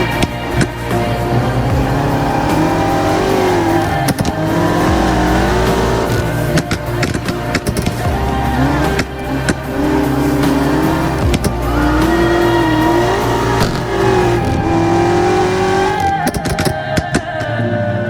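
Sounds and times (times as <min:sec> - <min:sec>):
car engine revving: 0:00.0 - 0:17.0
tyre squeal: 0:00.0 - 0:17.0
sharp clicks: 0:00.0 - 0:17.5.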